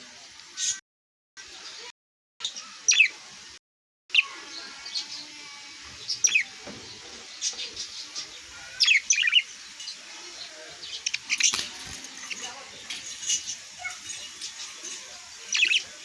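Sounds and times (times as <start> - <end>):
small birds chirping: 1.6 - 3.3, 4.1 - 16.0.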